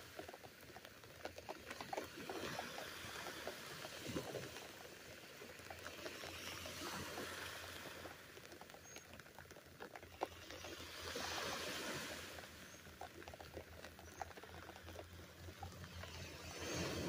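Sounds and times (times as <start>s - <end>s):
rain pattering on fabric umbrella: 0.0s - 17.0s.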